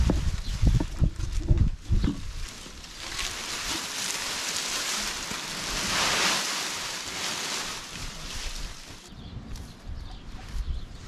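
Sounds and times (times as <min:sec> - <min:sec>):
dry acorn husks rustling: 0:00.0 - 0:09.1.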